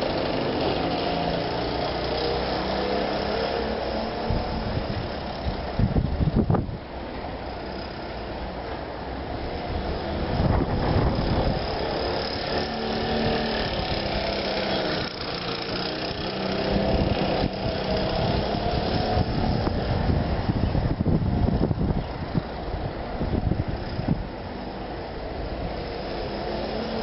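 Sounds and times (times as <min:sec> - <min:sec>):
moped engine passing by: 0:00.0 - 0:06.6, 0:07.5 - 0:27.0.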